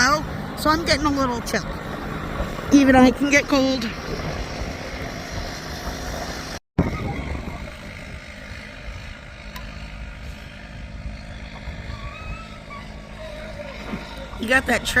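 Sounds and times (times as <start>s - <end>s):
bulldozer engine running: 0.0s - 15.0s
steady low hum: 0.0s - 15.0s
wind noise on microphone: 1.7s - 15.0s.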